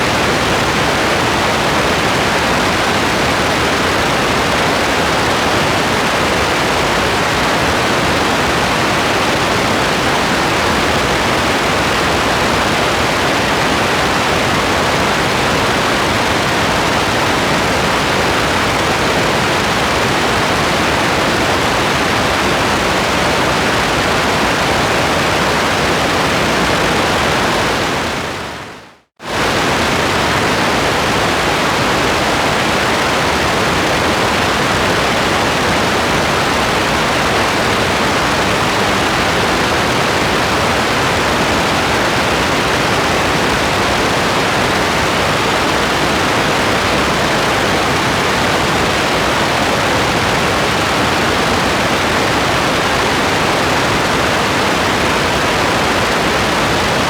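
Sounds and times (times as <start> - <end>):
dense rain hiss: 0.0 - 28.6, 29.2 - 57.0.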